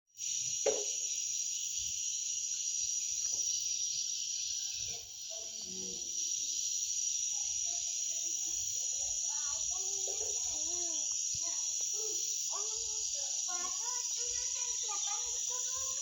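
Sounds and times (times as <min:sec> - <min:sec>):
insects chirring: 0:00.2 - 0:16.0.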